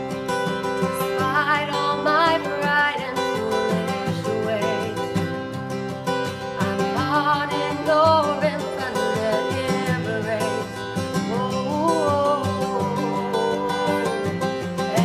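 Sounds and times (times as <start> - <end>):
picked acoustic guitar: 0.0 - 15.0
woman singing slow melody: 0.8 - 5.2, 6.6 - 15.0.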